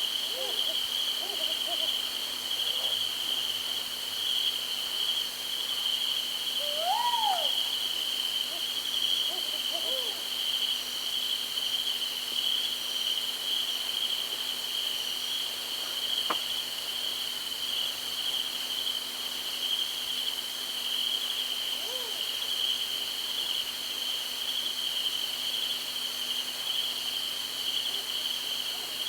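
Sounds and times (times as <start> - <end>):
crickets chirring: 0.0 - 28.8.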